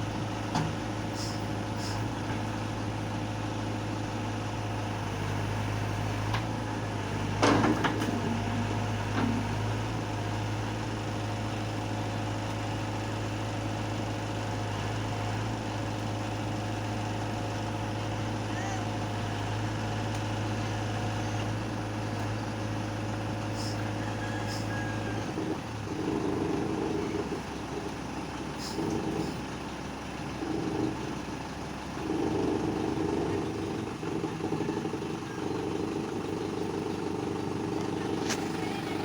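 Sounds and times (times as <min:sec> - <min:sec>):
heavy vehicle engine surging: 0:00.0 - 0:39.0.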